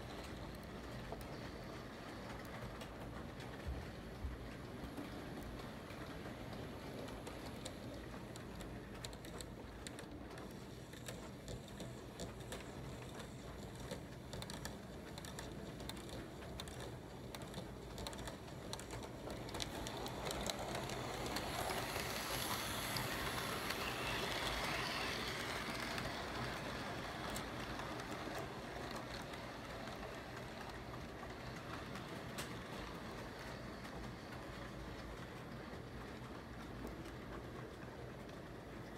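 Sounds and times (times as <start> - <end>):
model train rattling on track: 0.0 - 38.9.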